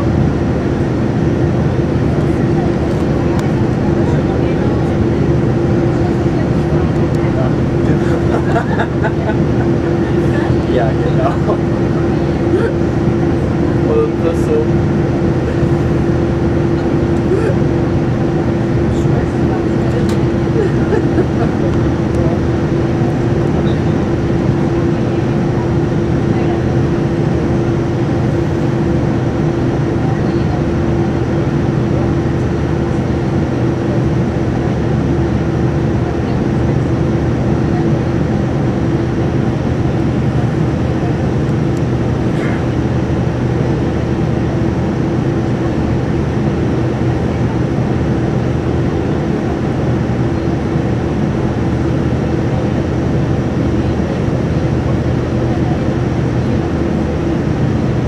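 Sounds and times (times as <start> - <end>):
aircraft engine and airflow rush: 0.0 - 58.0
steady droning hum: 0.0 - 58.0.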